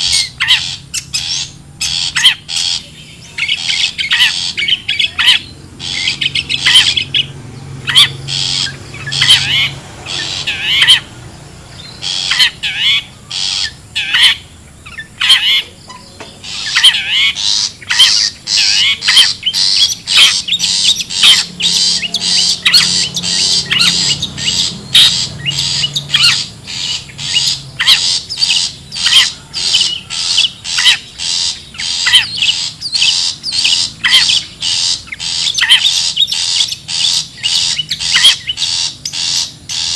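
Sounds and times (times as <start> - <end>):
bird giving harsh scratchy calls: 0.0 - 39.9.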